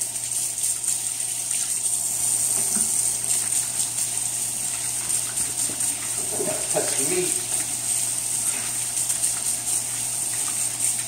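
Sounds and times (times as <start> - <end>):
faucet running into steel sink: 0.0 - 11.0
hands washing under water: 0.7 - 11.0.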